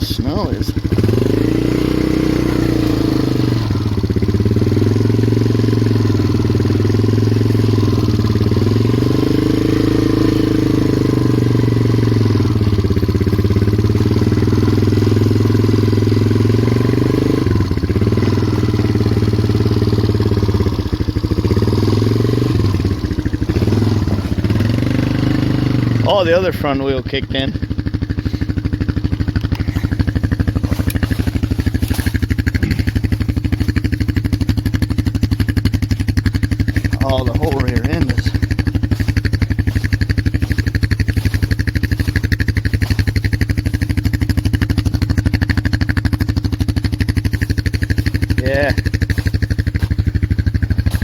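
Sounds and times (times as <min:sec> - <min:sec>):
atv engine revving under load: 0:00.0 - 0:51.0.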